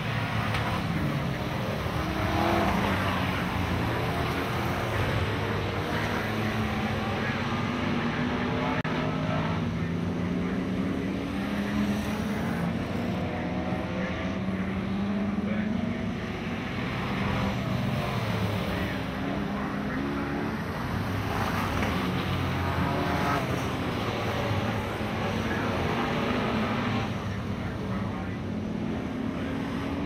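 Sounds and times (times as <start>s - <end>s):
stock car engines racing: 0.0s - 30.0s.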